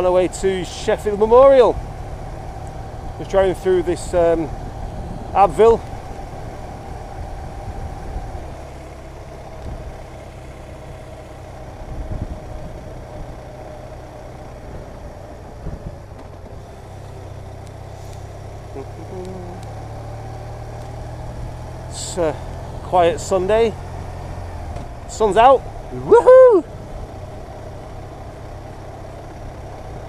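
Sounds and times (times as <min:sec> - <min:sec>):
motorcycle engine running: 0:00.0 - 0:30.0
road noise: 0:00.0 - 0:30.0.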